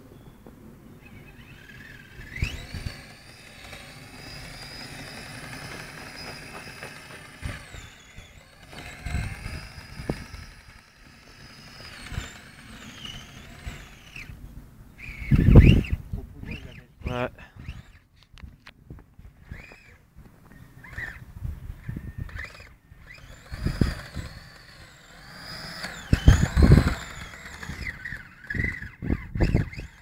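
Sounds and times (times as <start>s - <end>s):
electric motor whining: 1.0s - 14.4s, 15.0s - 16.9s, 17.6s - 18.1s, 19.4s - 30.0s.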